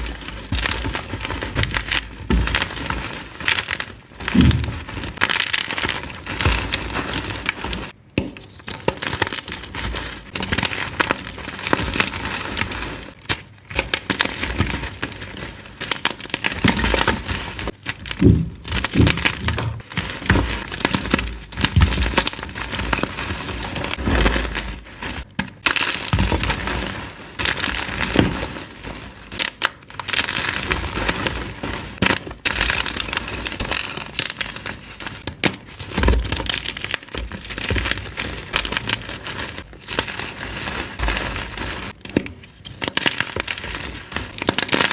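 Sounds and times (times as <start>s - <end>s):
chalk blocks crunching: 0.0s - 44.9s.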